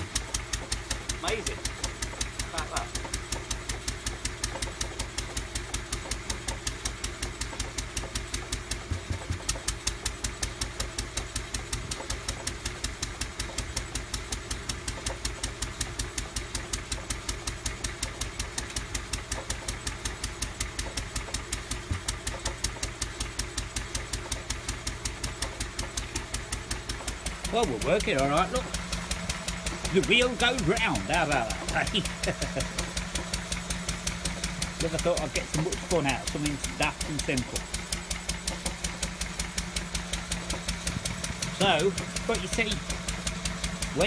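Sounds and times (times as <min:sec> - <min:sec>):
stationary engine running: 0:00.0 - 0:44.0.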